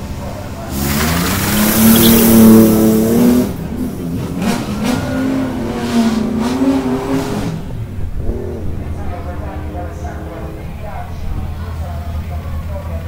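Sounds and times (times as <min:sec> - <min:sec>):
race car accelerating: 0:00.0 - 0:13.0.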